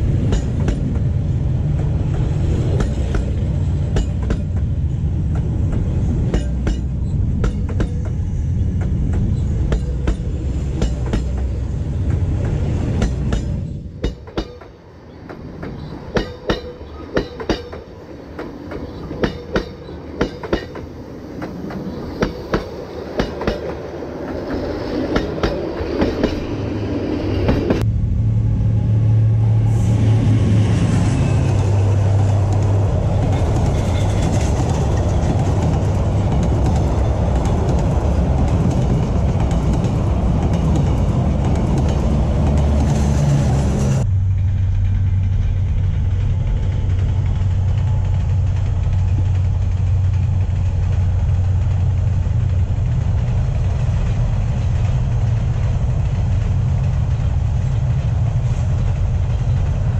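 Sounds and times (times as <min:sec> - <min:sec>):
wheels clacking over rail joints: 0:00.0 - 0:26.6, 0:31.9 - 0:59.9
diesel locomotive hum: 0:00.0 - 0:59.9
heavy train rumble: 0:00.0 - 0:59.9.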